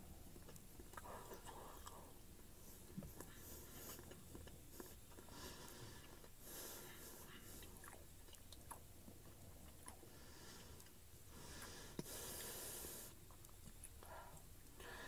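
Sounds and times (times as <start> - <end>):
chewing crispy breaded food: 0.2 - 6.4, 7.2 - 12.5, 13.1 - 14.8.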